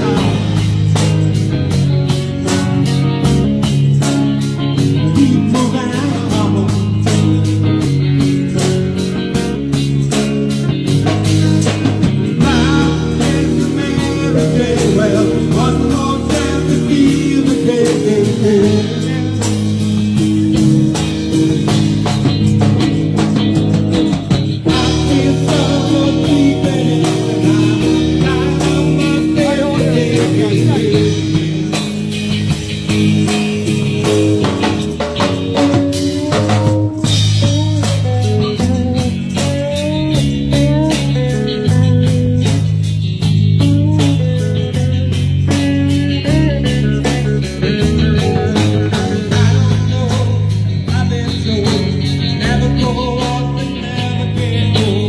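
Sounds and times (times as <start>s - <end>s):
bass guitar: 0.0s - 55.0s
drum kit beat: 0.0s - 55.0s
electric guitar: 0.0s - 55.0s.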